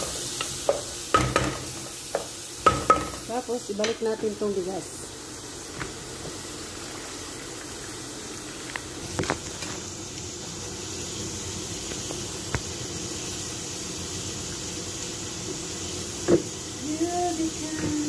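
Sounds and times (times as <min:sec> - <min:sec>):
pot hissing and bubbling: 0:00.0 - 0:18.0.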